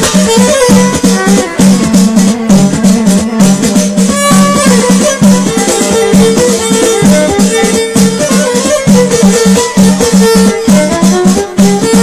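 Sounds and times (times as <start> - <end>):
hand drums: 0.0 - 12.0
pitched melody: 0.0 - 12.0
rattling percussion: 0.0 - 12.0.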